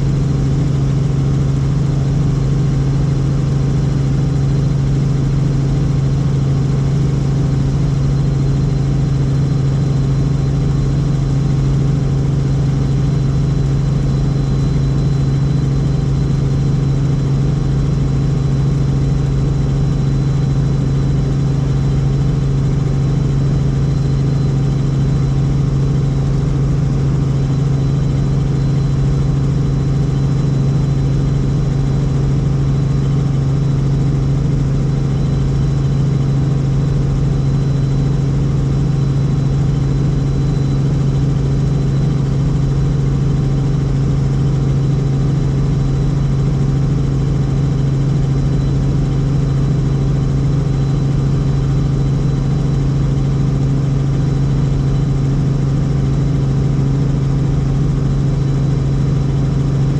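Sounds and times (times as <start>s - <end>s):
helicopter rotors droning: 0.0s - 59.9s.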